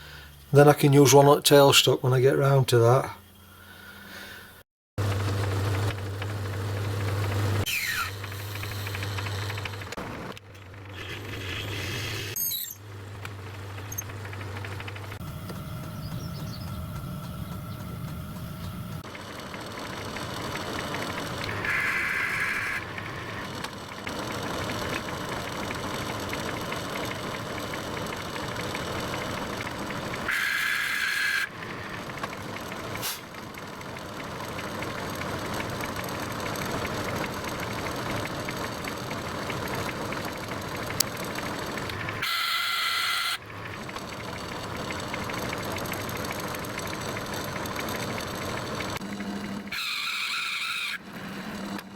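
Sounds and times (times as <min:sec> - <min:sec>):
lathe running: 0:05.0 - 0:11.0, 0:12.8 - 0:51.9.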